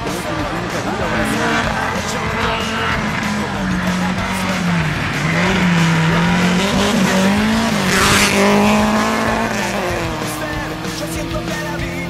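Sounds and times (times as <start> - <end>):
gravel and tyre noise: 0.0 - 12.0
rally car engine revving: 0.0 - 12.0.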